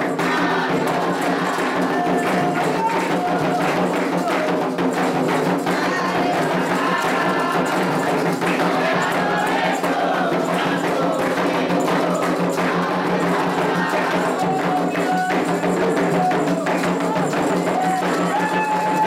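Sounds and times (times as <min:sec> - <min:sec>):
hand drums: 0:00.0 - 0:19.0
struck bell rhythm: 0:00.0 - 0:19.0
voices singing a chant: 0:00.0 - 0:19.0.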